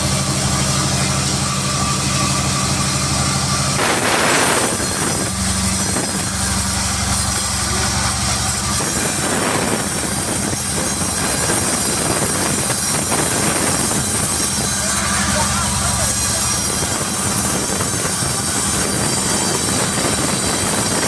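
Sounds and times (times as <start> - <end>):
engine hum: 0.0 - 21.0
loud even hiss: 0.0 - 21.0.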